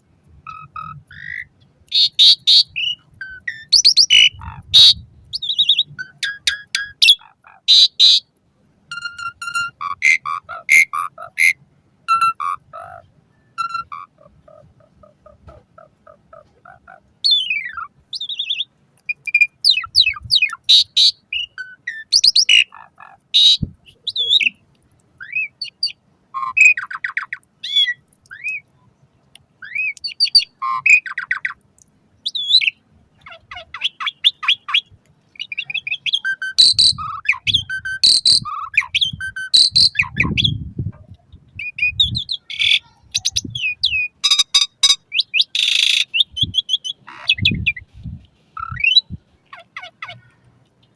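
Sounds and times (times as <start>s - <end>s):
starling singing: 0.5s - 8.3s, 8.9s - 24.6s, 25.2s - 28.7s, 29.6s - 31.6s, 32.2s - 47.8s.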